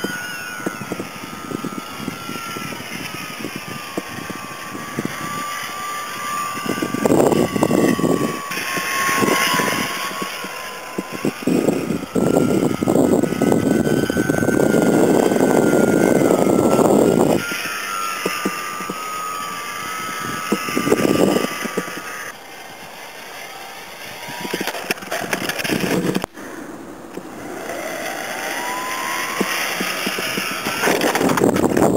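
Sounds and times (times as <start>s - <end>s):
wind buffeting microphone: 0.0s - 22.3s, 24.1s - 26.3s, 28.2s - 31.9s
model plane motor whining: 0.0s - 31.9s.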